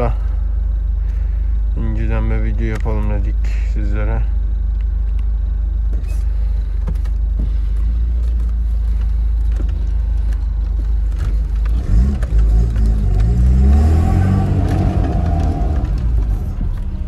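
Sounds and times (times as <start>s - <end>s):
car engine droning and revving: 0.0s - 17.0s.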